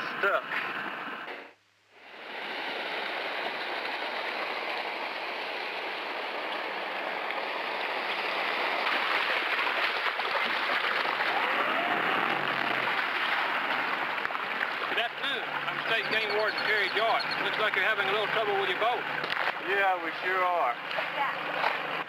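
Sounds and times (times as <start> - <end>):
rushing water: 2.0 - 22.0.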